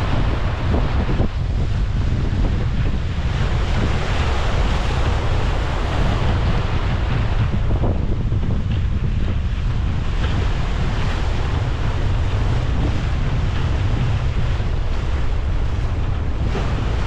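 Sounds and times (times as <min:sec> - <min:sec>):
sea water rushing: 0:00.0 - 0:17.0
wind buffeting microphone: 0:00.0 - 0:17.0.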